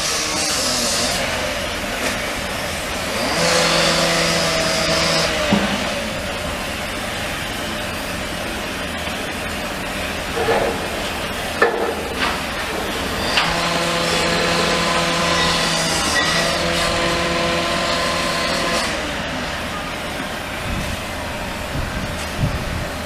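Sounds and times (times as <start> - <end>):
diesel machinery rumbling: 0.0 - 23.0
pitched machine whine: 0.0 - 23.0.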